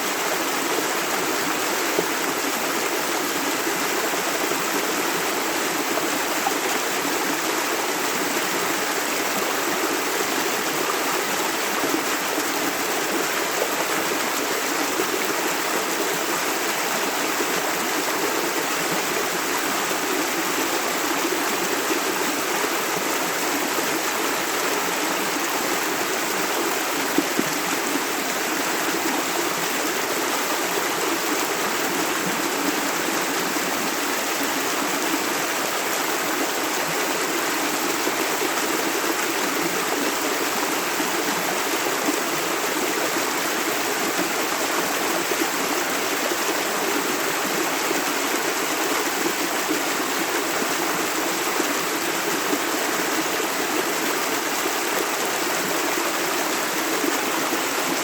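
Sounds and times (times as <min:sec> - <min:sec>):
river running over stones: 0:00.0 - 0:58.0.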